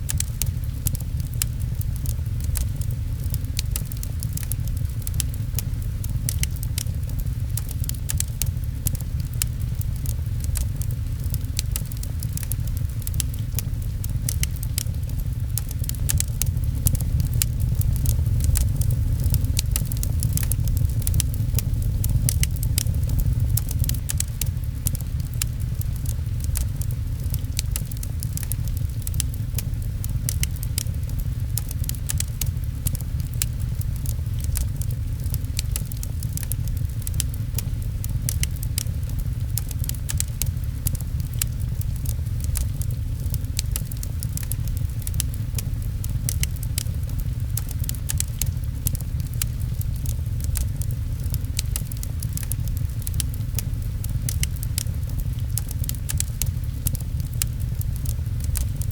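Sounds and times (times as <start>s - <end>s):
rain: 0.0s - 58.9s
wood fire crackling: 0.0s - 58.9s.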